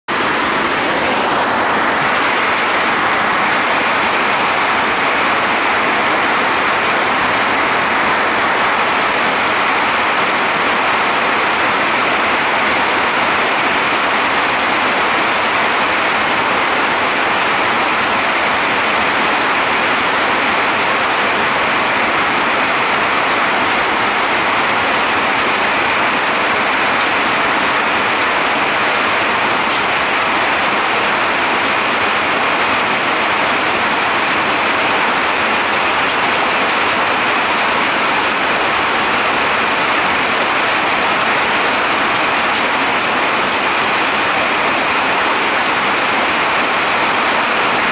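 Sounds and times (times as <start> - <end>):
hail and rain pouring: 0.1 - 47.9.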